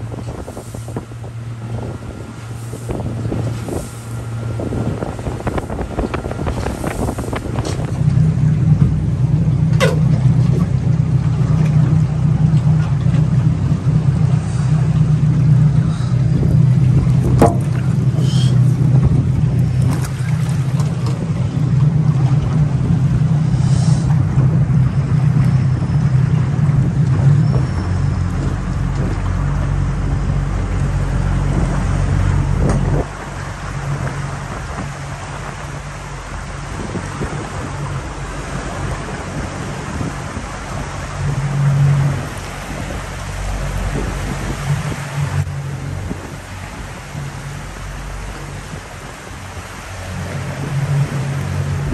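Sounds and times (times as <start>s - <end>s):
boat motor droning: 0.0s - 51.9s.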